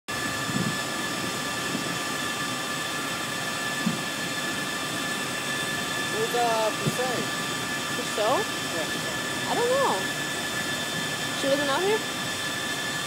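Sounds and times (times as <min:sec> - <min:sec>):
machinery whine: 0:00.1 - 0:13.0
wind and sea hiss: 0:00.1 - 0:13.0.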